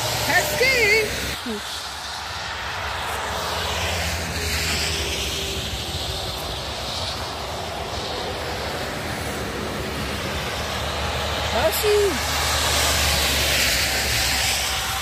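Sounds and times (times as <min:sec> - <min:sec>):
truck diesel engine approaching: 0:00.0 - 0:15.0
tyres on wet road: 0:00.0 - 0:15.0
van passing: 0:00.0 - 0:15.0.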